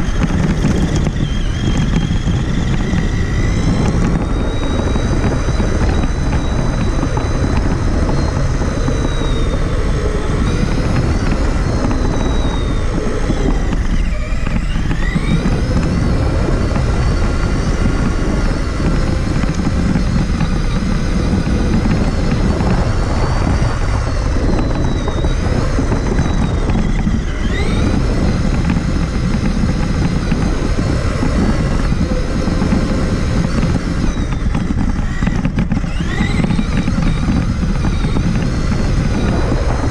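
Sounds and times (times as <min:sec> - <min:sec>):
electric motor whine: 0:00.0 - 0:39.9
heavy rumble: 0:00.0 - 0:39.9.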